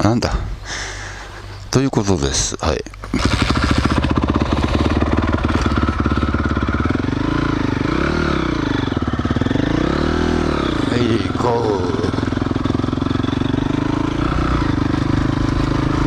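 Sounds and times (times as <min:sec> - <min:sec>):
motorcycle engine revving: 0:03.0 - 0:16.0.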